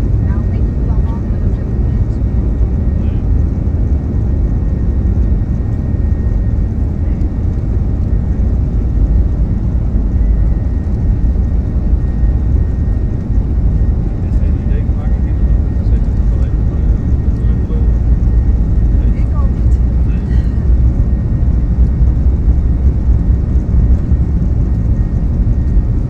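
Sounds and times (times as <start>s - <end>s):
airliner engine low rumble: 0.0s - 26.0s.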